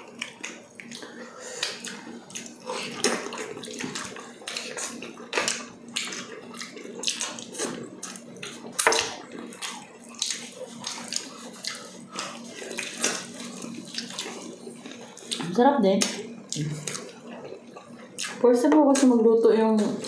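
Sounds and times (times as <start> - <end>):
people chewing and lip-smacking: 0.0 - 20.0.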